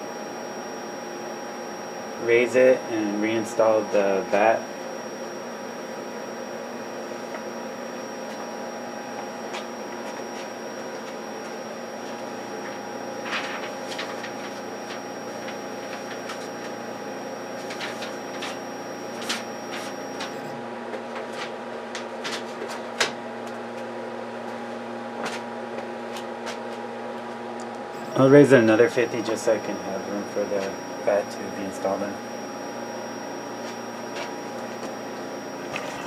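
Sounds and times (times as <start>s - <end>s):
printer motor humming: 0.0s - 22.4s, 27.5s - 36.0s.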